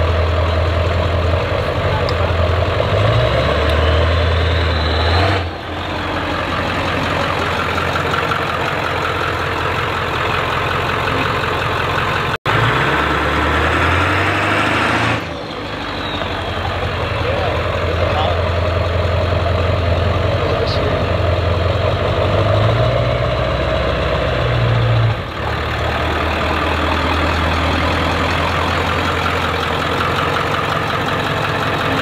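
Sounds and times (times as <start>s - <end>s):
diesel truck engine running: 0.0s - 32.0s.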